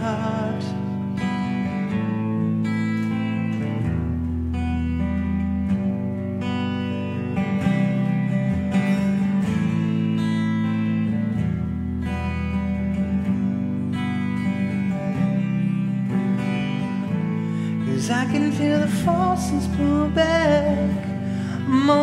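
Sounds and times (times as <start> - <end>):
electric guitar chords: 0.0 - 22.0.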